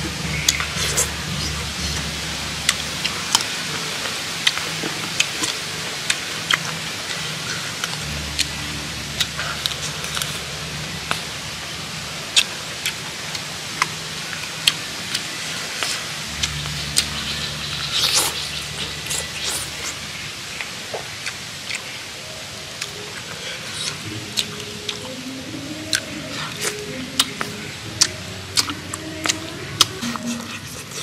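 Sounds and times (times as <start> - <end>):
steady hiss: 0.0 - 31.0
chewing and lip-smacking: 0.3 - 11.4, 12.3 - 31.0.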